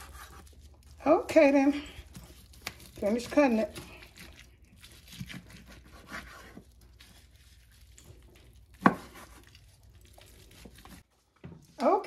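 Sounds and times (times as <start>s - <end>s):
knife scraping meat: 0.0s - 1.0s, 1.8s - 11.0s.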